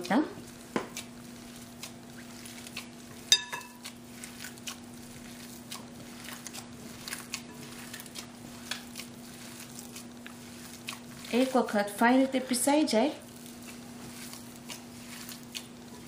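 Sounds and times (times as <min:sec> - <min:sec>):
potatoes squishing being mashed: 0:00.0 - 0:16.0.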